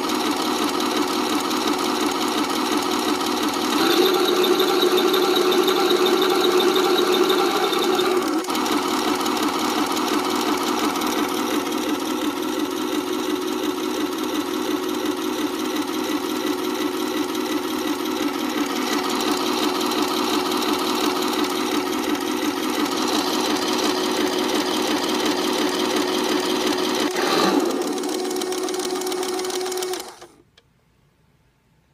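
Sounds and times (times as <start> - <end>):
electronic tank engine sound: 0.0 - 30.4.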